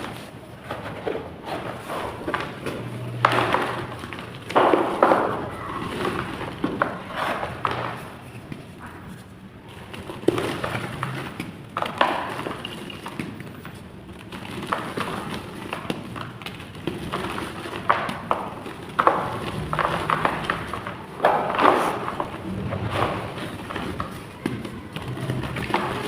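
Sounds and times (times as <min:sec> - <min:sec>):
clay blocks crunching and crumbling: 0:00.0 - 0:26.0.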